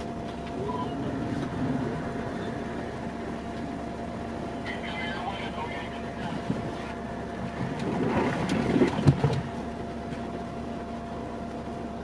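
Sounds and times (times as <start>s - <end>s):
steady vehicle hum: 0.0s - 12.0s.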